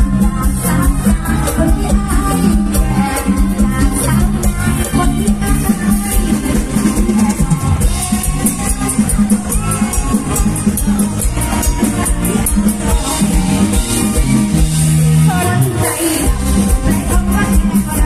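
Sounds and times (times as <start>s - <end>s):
drum kit beat: 0.0s - 18.0s
live band music: 0.0s - 18.0s.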